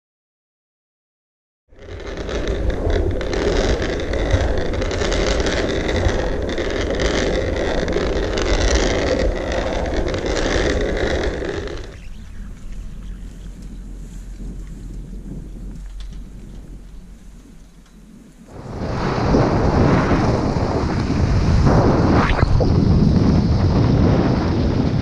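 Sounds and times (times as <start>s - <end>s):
board wheels rolling on asphalt: 1.7s - 25.0s
wind buffeting microphone: 1.7s - 25.0s.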